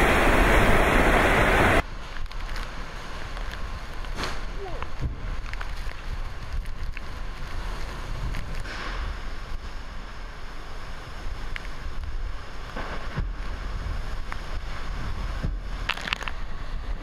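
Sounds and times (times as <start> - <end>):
strong wind with rain: 0.0 - 17.0.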